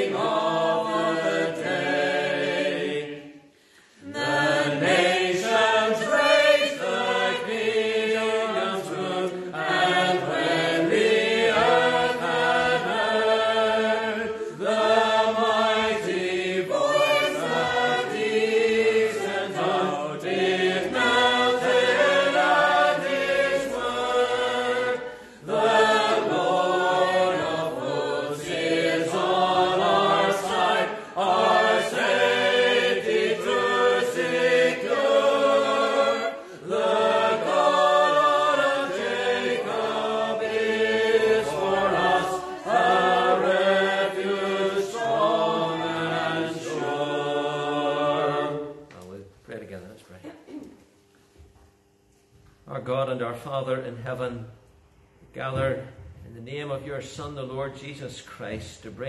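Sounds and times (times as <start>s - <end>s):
congregation singing unaccompanied: 0.0s - 48.9s.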